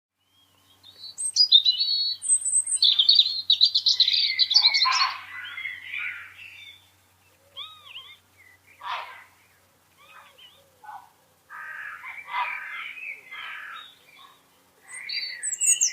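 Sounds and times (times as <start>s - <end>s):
short arched bird calls: 0.2s - 15.9s
small birds chirping and trilling: 0.2s - 15.9s.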